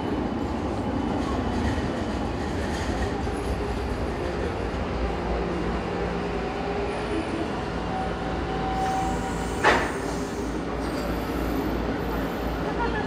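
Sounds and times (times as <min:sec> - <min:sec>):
metro train rumbling to a stop: 0:00.0 - 0:13.0.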